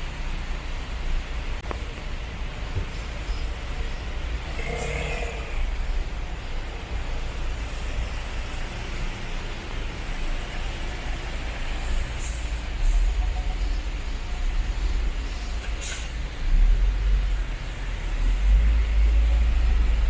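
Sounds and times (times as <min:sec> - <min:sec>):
passing road traffic: 0:00.0 - 0:20.0.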